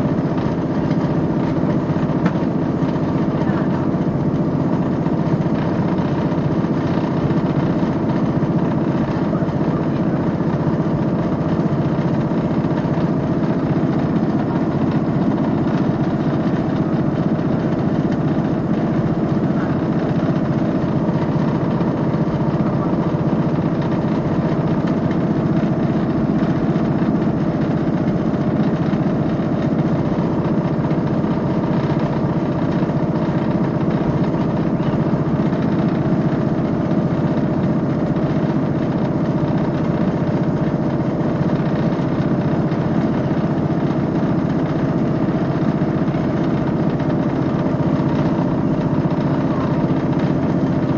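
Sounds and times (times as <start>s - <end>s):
train engine drone: 0.0s - 50.9s.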